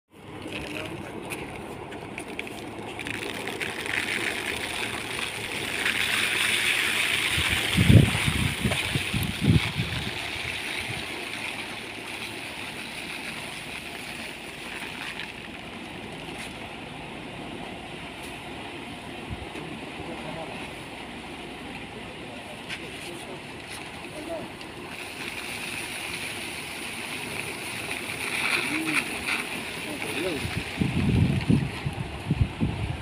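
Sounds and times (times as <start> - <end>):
fan blowing with grain hiss: 0.1 - 15.0, 15.6 - 33.0.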